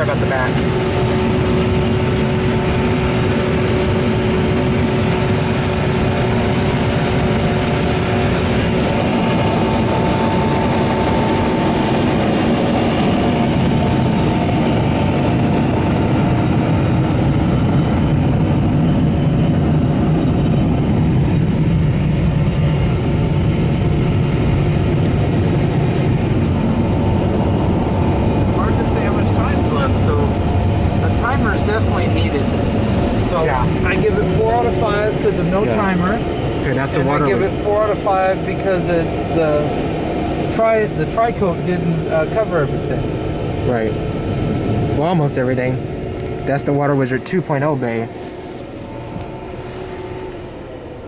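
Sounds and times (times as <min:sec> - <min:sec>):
car-wash dryer blowers rushing: 0:00.0 - 0:51.0.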